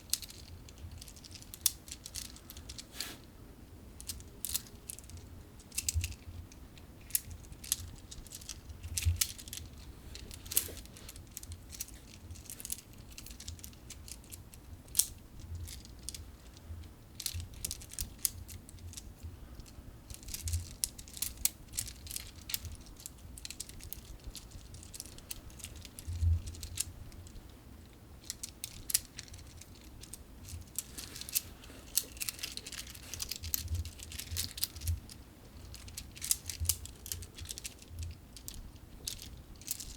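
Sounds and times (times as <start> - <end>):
fidget toy blocks clicking: 0.1 - 2.8, 4.0 - 16.6, 17.2 - 27.4, 28.2 - 39.9.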